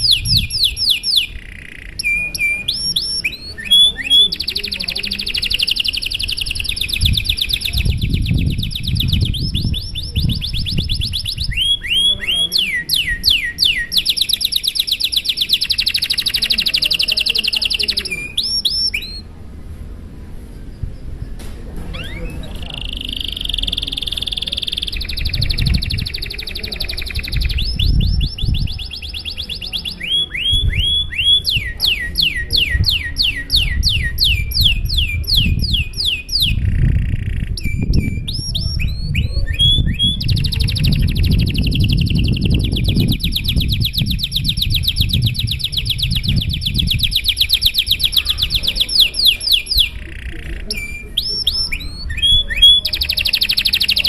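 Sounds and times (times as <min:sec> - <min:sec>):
canary singing trills: 0:00.0 - 0:19.3, 0:20.6 - 0:54.0.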